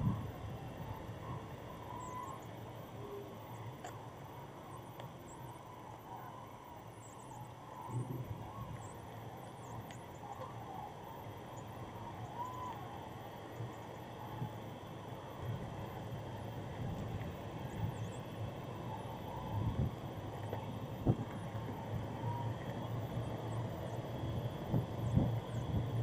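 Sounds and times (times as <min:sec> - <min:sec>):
wind rumble on microphone: 0:00.0 - 0:02.6, 0:07.0 - 0:12.8, 0:13.4 - 0:26.0.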